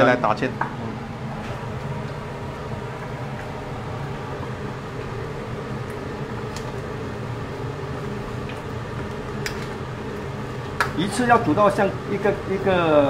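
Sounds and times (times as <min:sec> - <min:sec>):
kitchen fan humming: 0:00.0 - 0:13.0.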